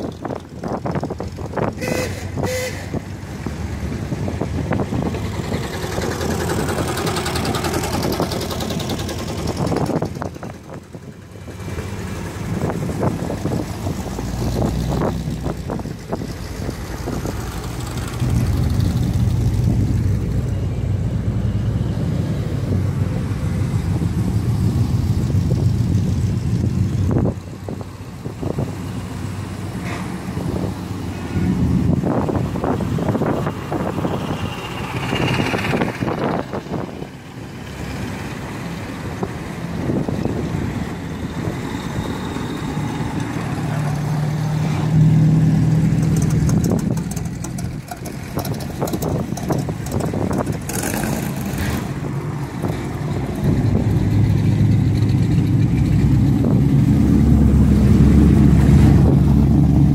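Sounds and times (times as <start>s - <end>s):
cars driving past: 0.0s - 59.9s
deep low engine rumble: 0.0s - 59.9s.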